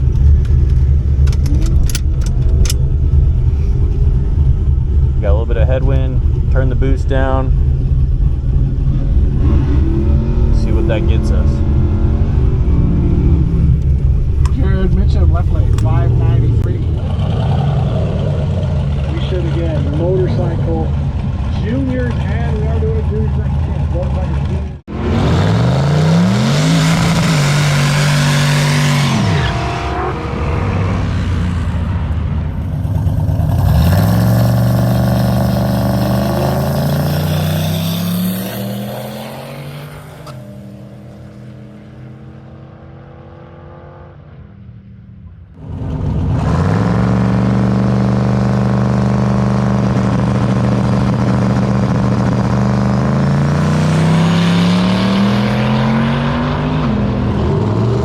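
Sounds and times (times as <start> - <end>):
drag racing engines at full throttle: 0.0 - 58.0.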